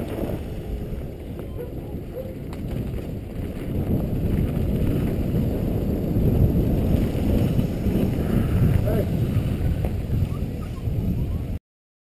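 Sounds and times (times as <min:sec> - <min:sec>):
bike tyres on dirt track: 0:00.0 - 0:11.6
wind buffeting microphone: 0:00.0 - 0:11.6.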